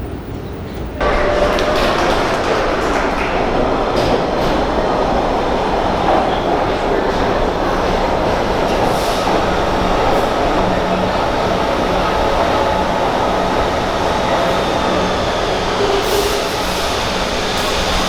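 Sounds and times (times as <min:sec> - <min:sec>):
train wheels rumbling on rail: 0:00.0 - 0:18.0
light track clacks: 0:00.1 - 0:18.0.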